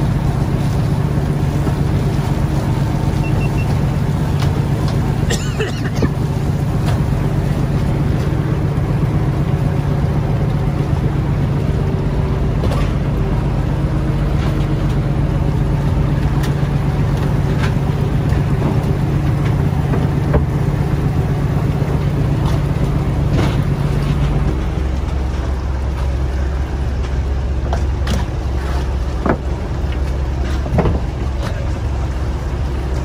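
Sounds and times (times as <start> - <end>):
boat machinery droning: 0.0 - 33.0.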